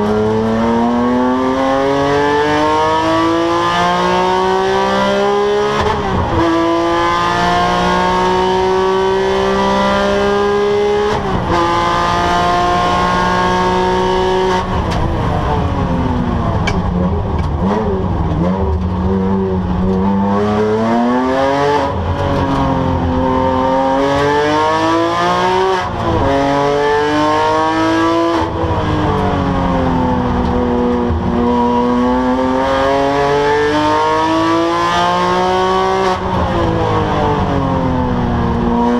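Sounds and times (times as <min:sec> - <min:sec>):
racing car engine revving: 0:00.0 - 0:38.9.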